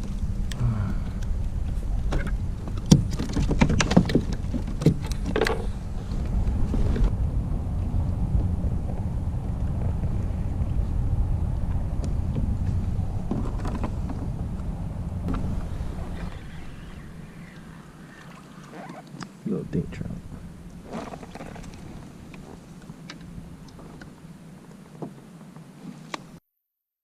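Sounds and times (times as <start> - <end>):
low rumble of wind and water: 0.0 - 26.4.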